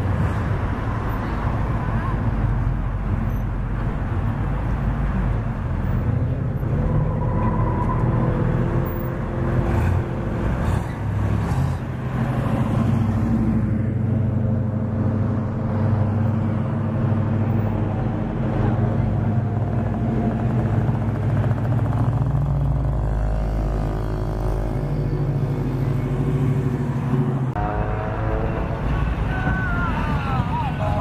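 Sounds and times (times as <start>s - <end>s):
car engines rolling past: 0.0s - 31.0s.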